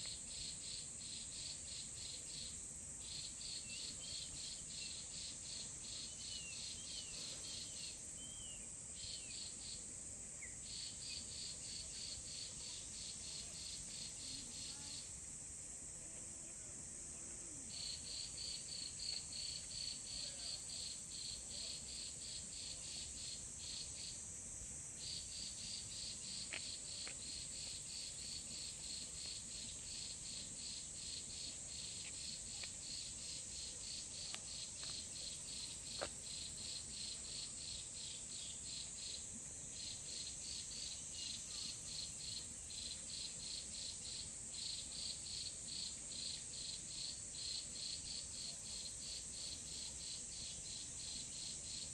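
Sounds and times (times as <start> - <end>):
insect chirping: 0.0 - 51.9
steady high hiss: 0.0 - 51.9.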